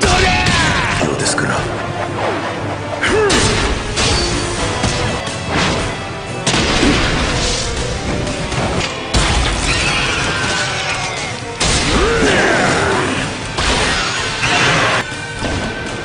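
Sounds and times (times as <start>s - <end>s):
battle soundtrack music: 0.0s - 16.0s.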